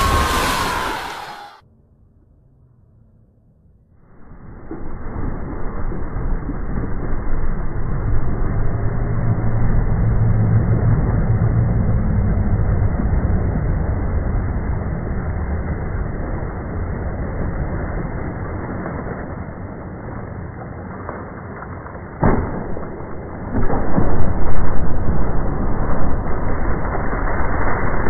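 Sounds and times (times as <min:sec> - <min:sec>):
deep rumbling rush of water: 0:00.0 - 0:01.6, 0:04.1 - 0:28.0.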